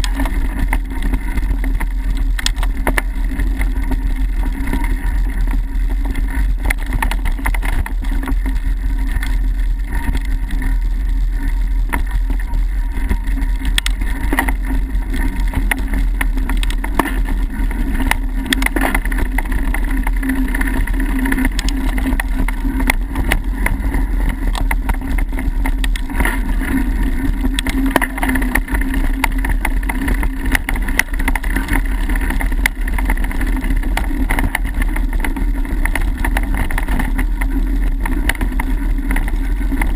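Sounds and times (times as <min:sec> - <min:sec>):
bike tyres and frame rattling: 0:00.0 - 0:39.9.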